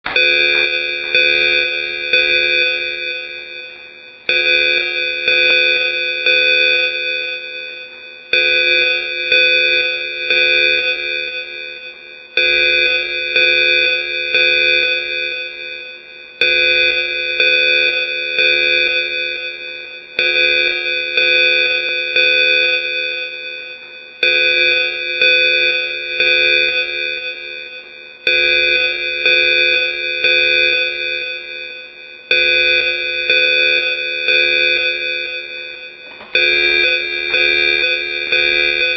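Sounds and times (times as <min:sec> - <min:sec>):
clanging evacuation alarm: 0:00.0 - 0:38.9.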